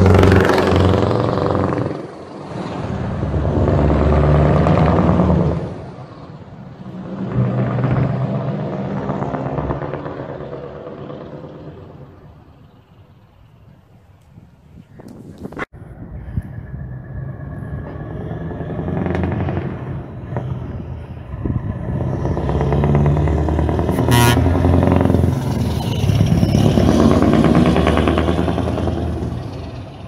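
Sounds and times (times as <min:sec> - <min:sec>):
truck engine passing by: 0:00.0 - 0:13.1, 0:15.8 - 0:30.0.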